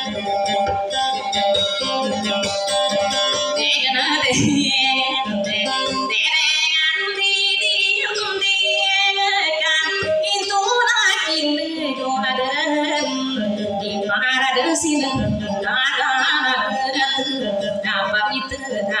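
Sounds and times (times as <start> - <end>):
acoustic guitar: 0.0 - 19.0
woman singing ornamented melody: 3.6 - 19.0.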